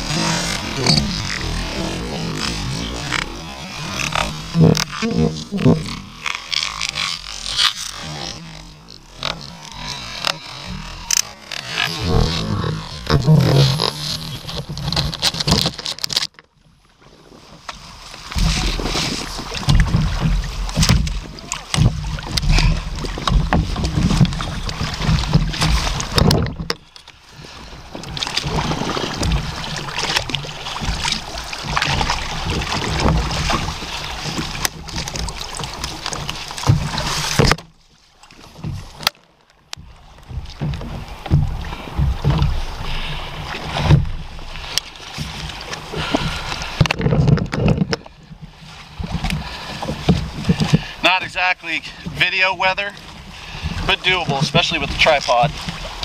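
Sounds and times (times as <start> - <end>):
water splashing against a kayak: 0.0 - 56.0.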